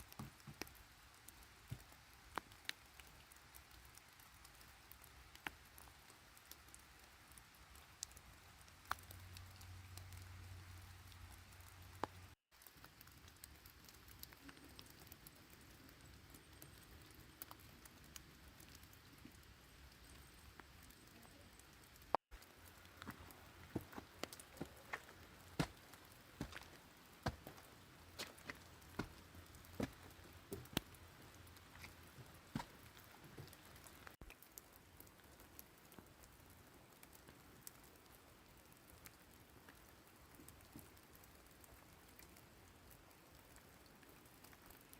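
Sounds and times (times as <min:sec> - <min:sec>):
light rain falling: 0:00.0 - 0:44.9.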